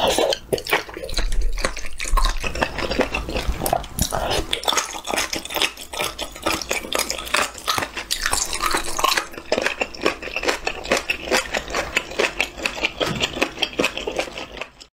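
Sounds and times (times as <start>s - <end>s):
person chewing: 0.0s - 14.9s.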